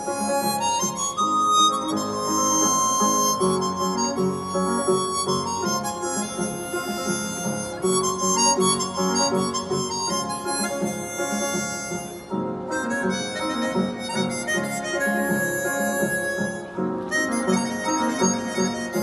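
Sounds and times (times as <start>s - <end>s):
harmonica melody: 0.0s - 19.0s
upright piano accompaniment: 0.0s - 19.0s.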